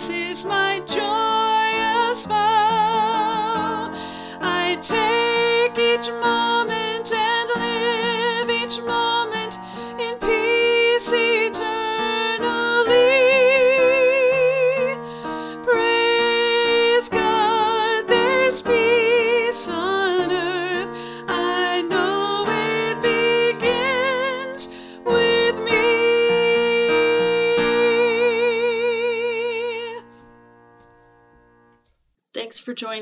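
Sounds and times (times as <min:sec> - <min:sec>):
woman singing with vibrato: 0:00.0 - 0:15.0, 0:15.6 - 0:30.0.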